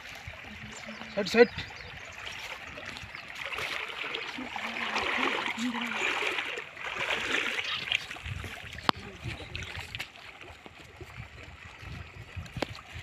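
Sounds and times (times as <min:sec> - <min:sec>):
river water splashing and rushing: 0:00.0 - 0:13.0.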